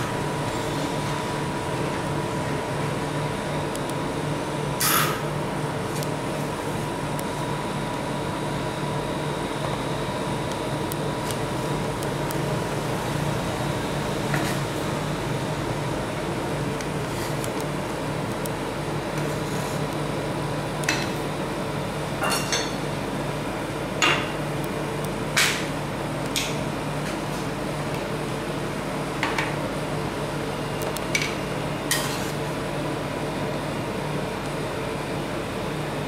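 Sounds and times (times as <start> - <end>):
steady mechanical hum: 0.0 - 36.0.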